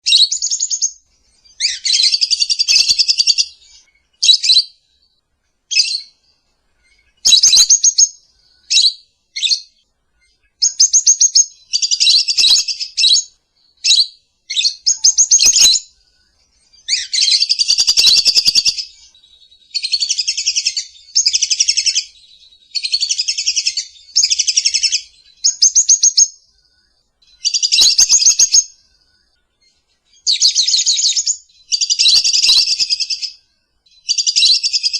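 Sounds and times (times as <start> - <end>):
lovebird chirping chatter: 0.0 - 34.9.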